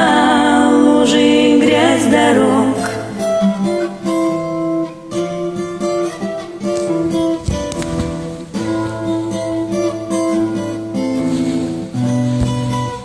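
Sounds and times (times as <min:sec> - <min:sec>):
acoustic guitar strumming and plucking: 0:00.0 - 0:13.0.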